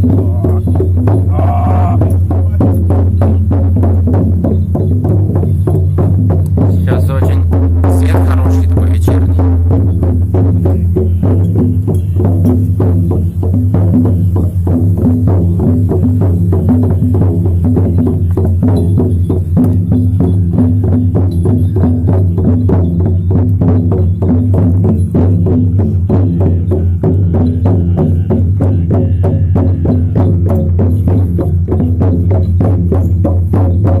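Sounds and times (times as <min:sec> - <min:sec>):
quick percussive beat: 0:00.0 - 0:34.0.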